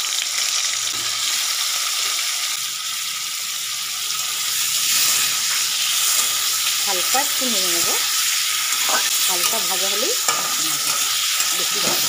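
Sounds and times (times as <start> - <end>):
cheese cubes sizzling in oil: 0.0 - 12.0.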